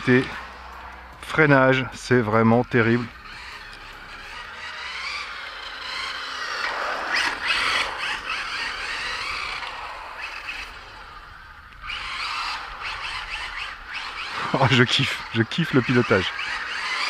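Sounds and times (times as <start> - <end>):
rc car motor and tyre squeal: 0.0 - 17.0.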